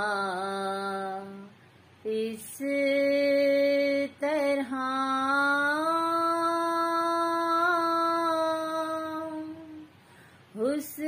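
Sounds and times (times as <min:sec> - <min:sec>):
woman singing unaccompanied: 0:00.0 - 0:11.0.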